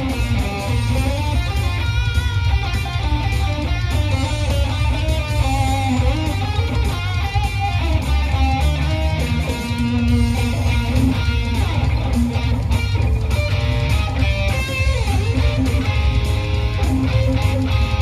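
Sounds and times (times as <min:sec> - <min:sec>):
electric guitar lead: 0:00.0 - 0:18.0
rock backing track drums and bass: 0:00.0 - 0:18.0.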